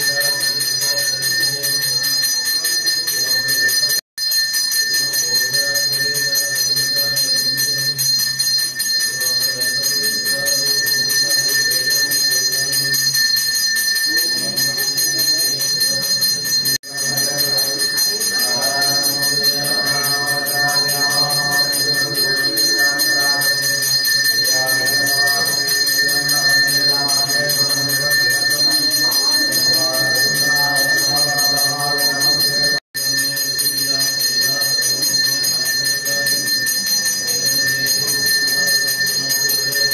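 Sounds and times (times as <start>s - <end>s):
person chanting: 0.0s - 1.9s, 4.9s - 8.0s, 9.1s - 13.0s, 14.1s - 39.9s
temple bell ringing: 0.0s - 39.9s.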